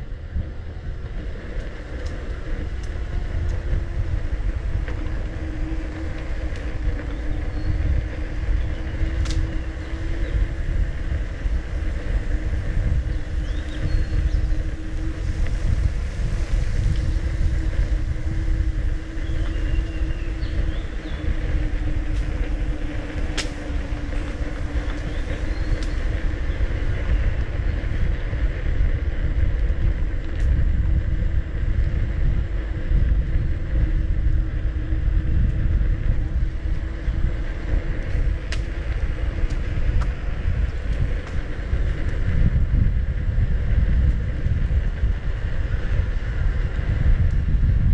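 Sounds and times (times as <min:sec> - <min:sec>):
steady hum: 0:00.0 - 0:47.9
wind rumbling on microphone: 0:00.0 - 0:47.9.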